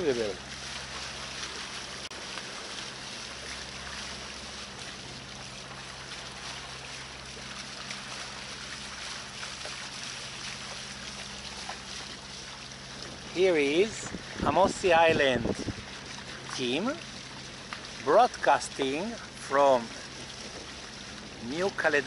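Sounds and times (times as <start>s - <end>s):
low engine hum: 0.0s - 22.0s
water hissing past hulls: 0.0s - 22.0s.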